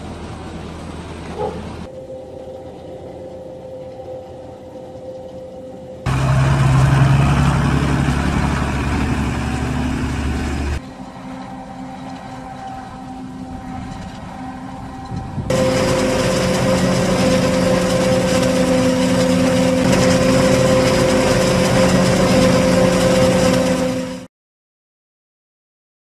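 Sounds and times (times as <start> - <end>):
harvester and tractor engines: 0.0 - 1.9, 4.0 - 24.3
machine drone with high whine: 0.0 - 24.3.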